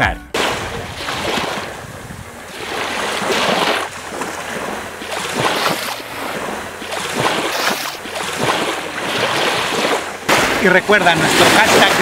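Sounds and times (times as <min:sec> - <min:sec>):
small waves breaking on beach: 0:00.4 - 0:12.0.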